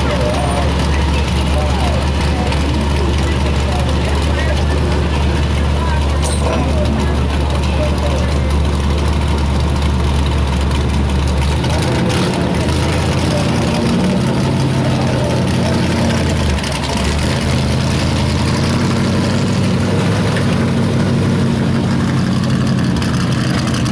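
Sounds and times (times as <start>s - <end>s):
truck engine running loud: 0.0s - 23.9s.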